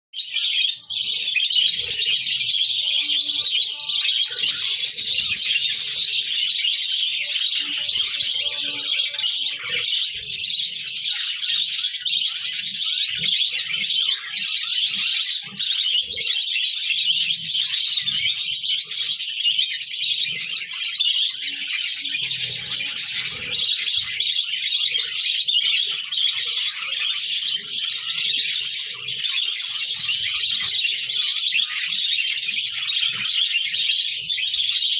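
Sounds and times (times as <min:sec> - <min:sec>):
budgerigars chattering: 0:00.2 - 0:34.9.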